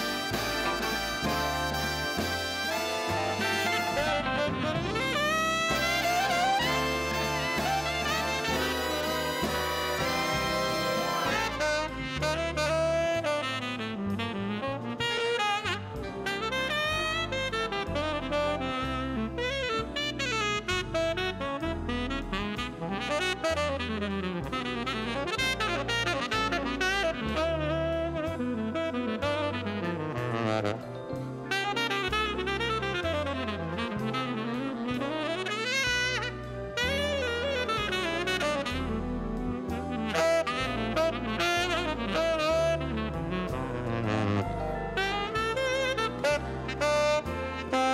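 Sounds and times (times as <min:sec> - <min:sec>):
bass line: 0:00.0 - 0:47.9
big band jazz: 0:00.0 - 0:47.9
brass chords: 0:00.0 - 0:47.9
tenor saxophone solo: 0:00.0 - 0:47.9.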